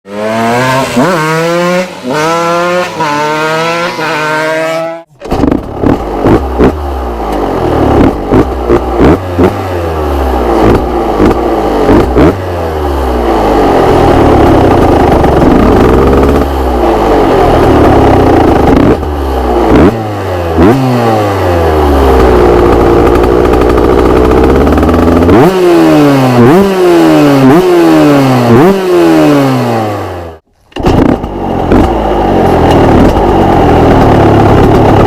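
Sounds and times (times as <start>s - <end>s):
motorcycle engine revving: 0.1s - 35.0s.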